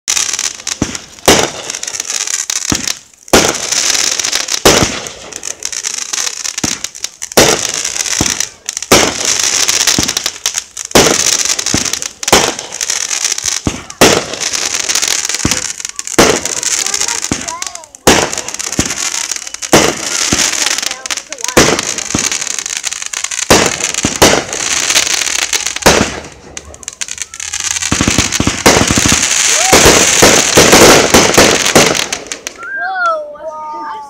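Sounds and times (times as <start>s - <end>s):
fireworks hissing and crackling: 0.0s - 34.0s
fireworks bangs: 0.1s - 33.2s.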